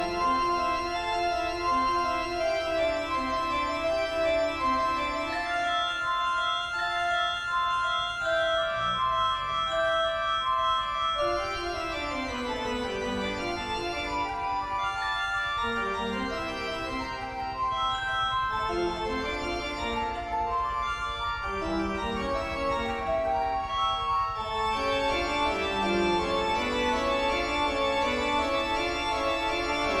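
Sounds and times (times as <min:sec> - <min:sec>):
organ-like keyboard music: 0:00.0 - 0:30.0.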